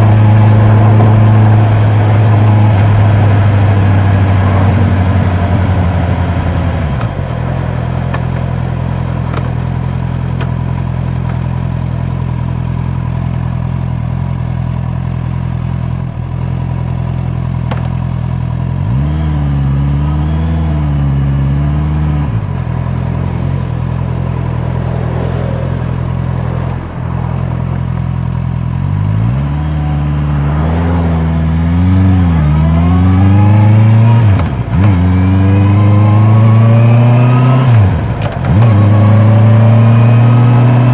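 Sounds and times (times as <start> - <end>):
motorcycle engine and exhaust revving: 0.0 - 40.9.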